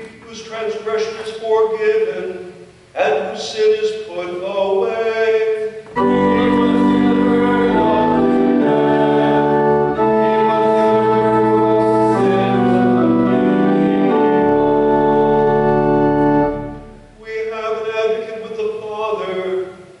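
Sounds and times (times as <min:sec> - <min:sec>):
church organ chords: 0:03.2 - 0:19.7.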